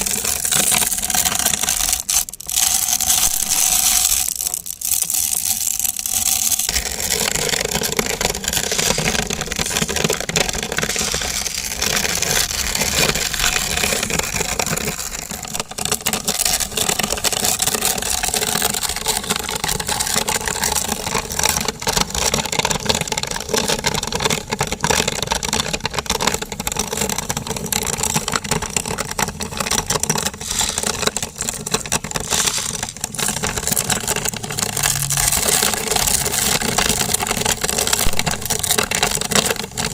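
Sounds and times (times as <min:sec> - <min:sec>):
pasta crackling being ground: 0:00.0 - 0:39.9.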